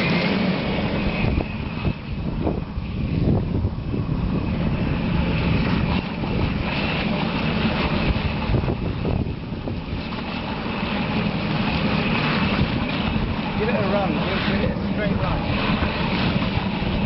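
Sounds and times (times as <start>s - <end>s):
high whine of boat motor: 0.0s - 17.0s
wind buffeting microphone: 0.0s - 17.0s.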